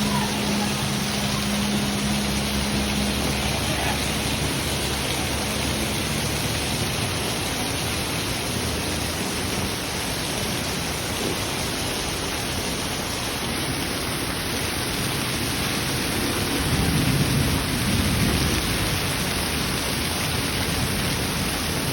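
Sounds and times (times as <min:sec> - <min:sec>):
heavy rain pouring: 0:00.0 - 0:21.9.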